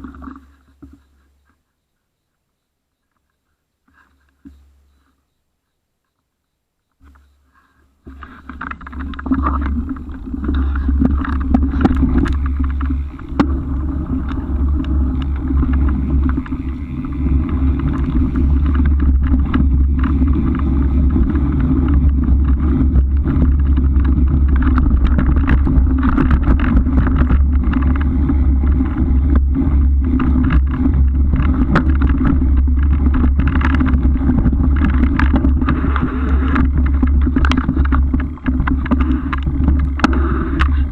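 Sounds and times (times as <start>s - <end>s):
bike knocks and rattles: 8.0s - 40.9s
wind buffeting camera: 8.0s - 40.9s.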